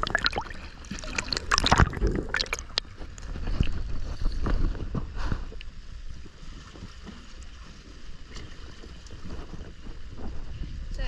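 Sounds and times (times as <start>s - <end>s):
water sloshing around a boat: 0.0s - 11.0s
wind on the microphone: 0.0s - 11.0s.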